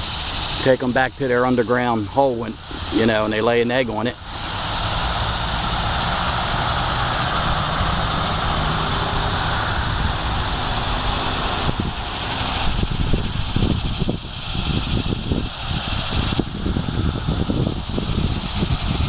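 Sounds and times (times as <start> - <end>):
cicada buzzing: 0.0 - 19.0.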